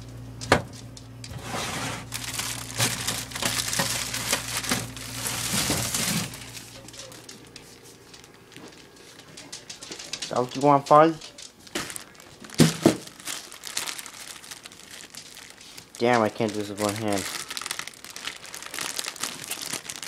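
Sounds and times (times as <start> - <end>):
plastic bag crinkling: 2.0 - 20.0.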